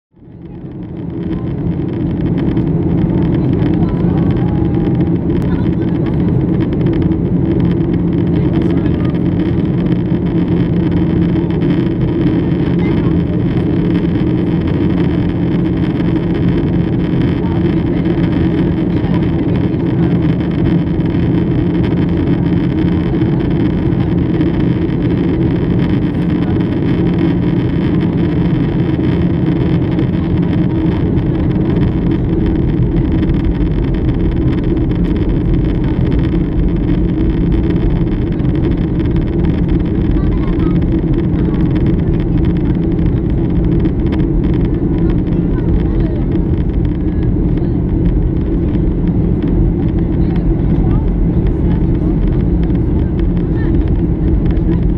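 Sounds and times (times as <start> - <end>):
jet engine drone: 0.1 - 54.9
steady hum tones: 0.1 - 54.9
air rushing along fuselage: 0.2 - 54.9.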